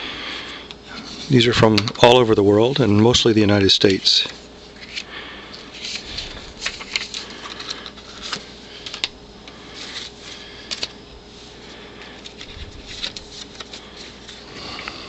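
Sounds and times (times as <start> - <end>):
postcards rustling: 0.9 - 14.8.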